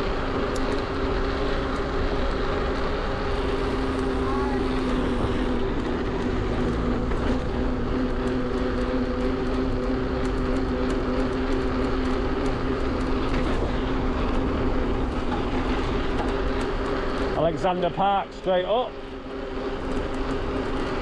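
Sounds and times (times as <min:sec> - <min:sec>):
electric motor hum: 0:00.0 - 0:17.5.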